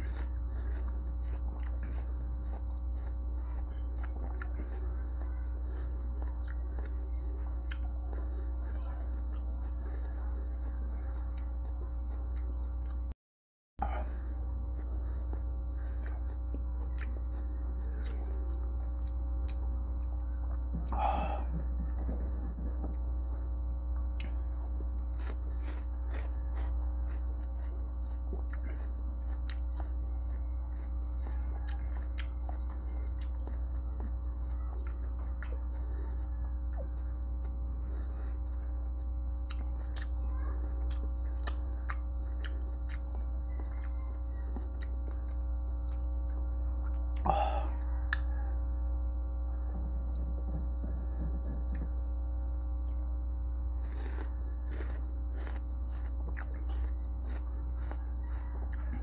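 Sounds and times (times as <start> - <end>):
wet chewing crunches: 0.0 - 13.1, 13.8 - 48.5, 49.6 - 52.0, 52.6 - 59.0
low electrical hum: 0.0 - 13.2, 13.8 - 59.0.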